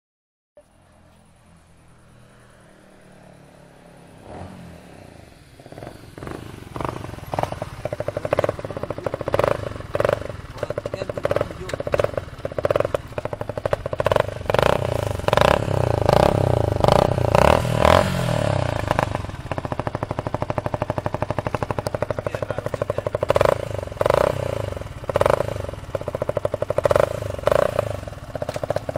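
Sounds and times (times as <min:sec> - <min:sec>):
motorcycle engine revving: 0:01.8 - 0:28.9
motorcycle engine idling: 0:05.4 - 0:28.9.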